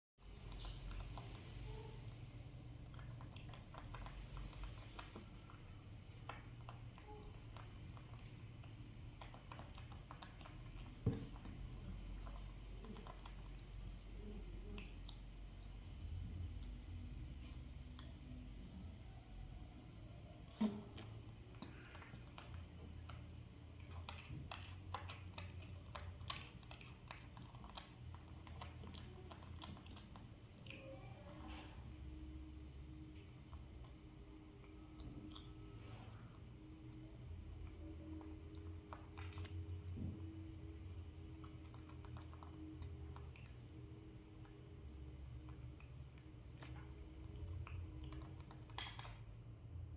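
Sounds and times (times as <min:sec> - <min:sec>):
monkey chewing fruit: 0:00.2 - 0:18.6, 0:20.4 - 0:49.9.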